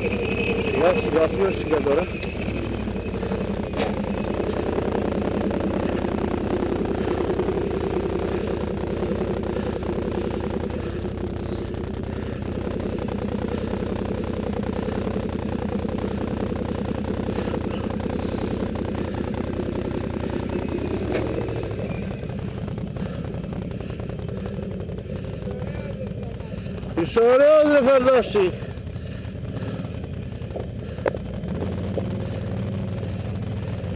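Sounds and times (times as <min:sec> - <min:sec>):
atv engines running: 0:00.0 - 0:33.9.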